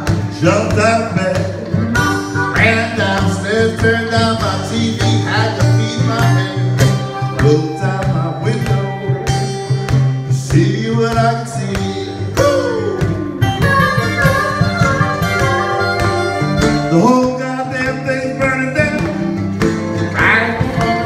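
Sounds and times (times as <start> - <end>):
acoustic guitars playing: 0.0 - 21.0
harmonica bending notes: 0.0 - 21.0.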